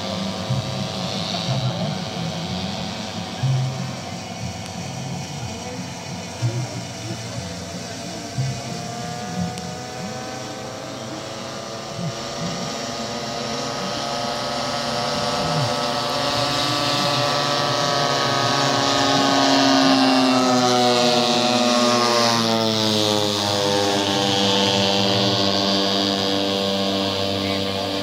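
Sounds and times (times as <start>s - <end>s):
model airplane engine flying past: 0.0s - 28.0s.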